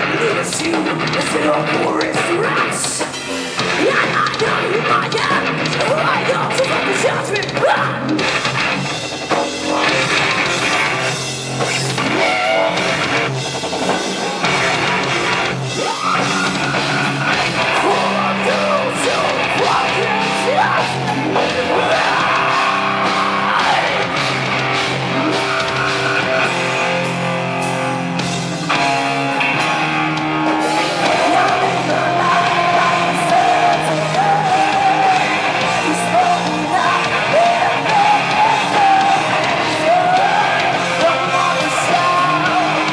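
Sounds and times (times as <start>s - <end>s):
person singing and shouting: 0.0s - 8.2s, 11.9s - 13.1s, 15.7s - 27.1s, 29.4s - 42.9s
drums: 0.0s - 42.9s
electric guitar: 0.0s - 42.9s.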